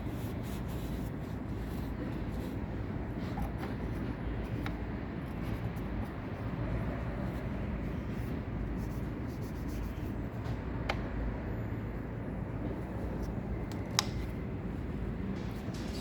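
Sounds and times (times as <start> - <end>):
workshop background rumble: 0.0 - 16.0.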